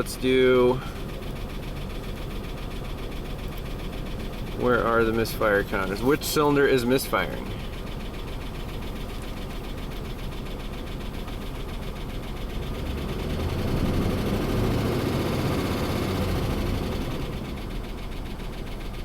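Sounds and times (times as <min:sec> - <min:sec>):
misfiring engine running: 0:00.0 - 0:19.0
rapid engine tapping: 0:00.0 - 0:19.0.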